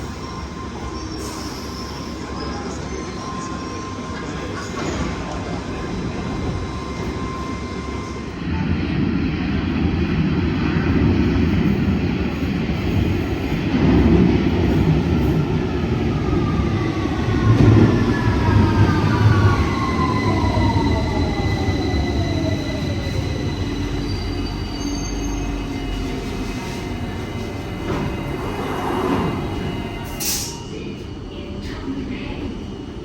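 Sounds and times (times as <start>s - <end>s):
train rumbling into station: 0.0s - 33.0s
train steady tone: 0.0s - 33.0s.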